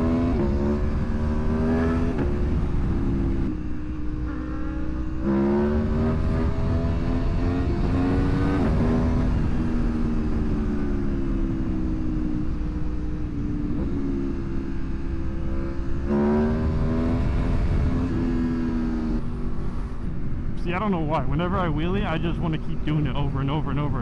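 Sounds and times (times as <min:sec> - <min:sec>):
wind rumble on microphone: 0:00.0 - 0:04.3, 0:05.8 - 0:23.4
motorcycle engine revving: 0:00.0 - 0:20.2.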